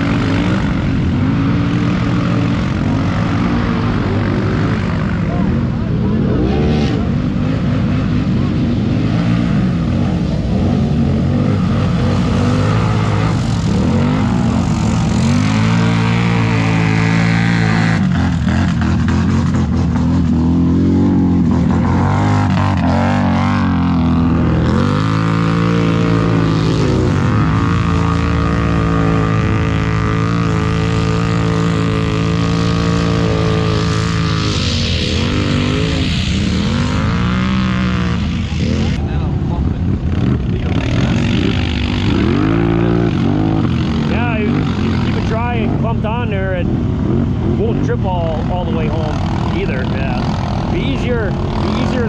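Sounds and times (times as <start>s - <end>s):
atv engines revving: 0.0s - 52.0s.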